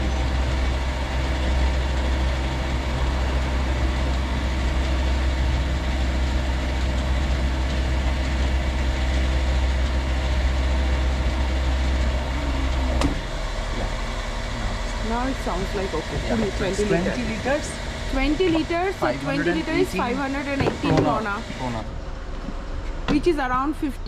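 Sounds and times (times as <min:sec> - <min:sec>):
petrol pump motor hum: 0:00.0 - 0:23.7.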